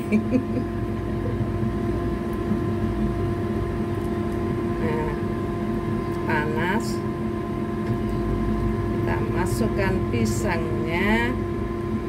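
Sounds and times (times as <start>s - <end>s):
motor hum with low rumble: 0.0s - 12.0s.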